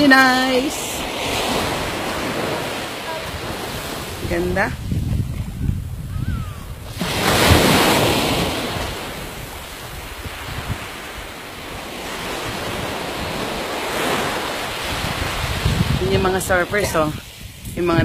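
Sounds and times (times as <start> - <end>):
surf washing up a beach: 0.0 - 18.0
wind buffeting microphone: 0.0 - 18.0.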